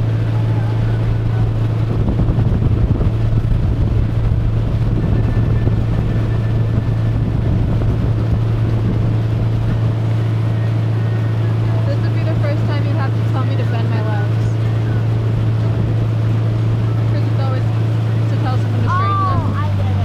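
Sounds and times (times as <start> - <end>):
motorboat engine drone: 0.0 - 20.0
wind buffeting microphone: 0.0 - 20.0.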